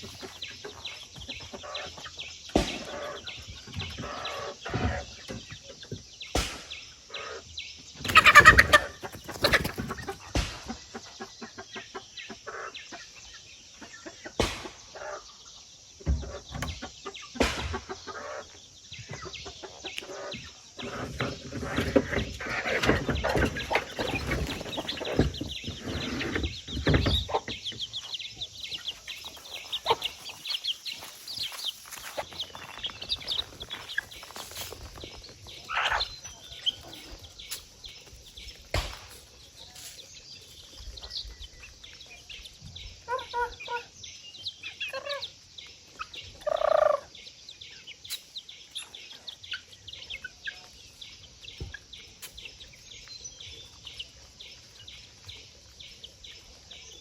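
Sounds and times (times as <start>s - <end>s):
poultry clucking and calling: 0.0s - 57.0s.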